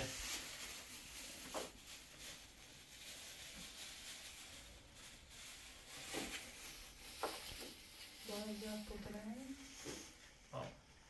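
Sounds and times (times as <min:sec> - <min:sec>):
beans being handled: 0:00.0 - 0:10.3
plastic bags rustling: 0:00.0 - 0:11.0
plastic crinkle: 0:00.0 - 0:11.0.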